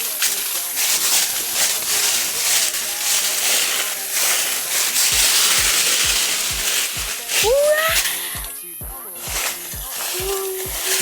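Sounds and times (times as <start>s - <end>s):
music with deep regular beat: 0.0s - 11.0s.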